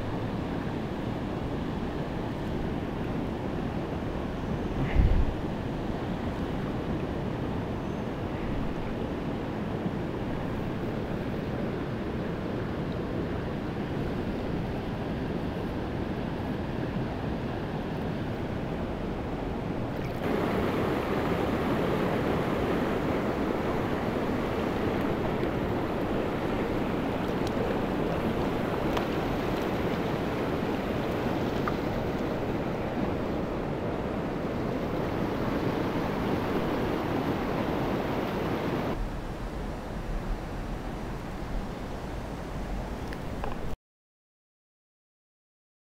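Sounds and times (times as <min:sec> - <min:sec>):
stream water rushing: 0:00.0 - 0:43.8.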